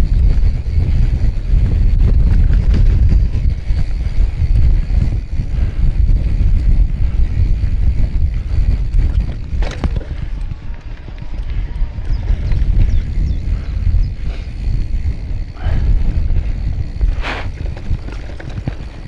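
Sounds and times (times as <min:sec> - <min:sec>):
mountain bike rumbling on trail: 0:00.0 - 0:19.0
wind buffeting microphone: 0:00.0 - 0:19.0.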